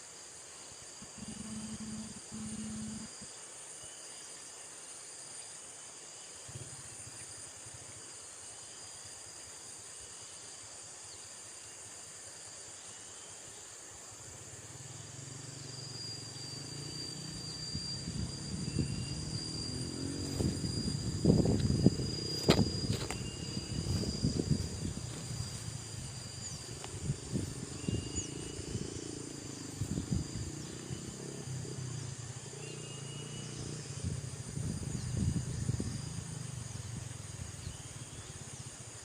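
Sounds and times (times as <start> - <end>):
insect chorus: 0.0 - 39.0.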